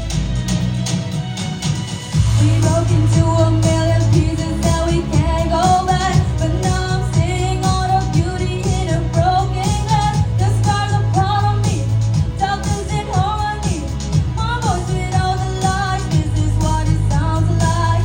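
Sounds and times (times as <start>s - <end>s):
pop song with vocals: 0.0s - 18.0s.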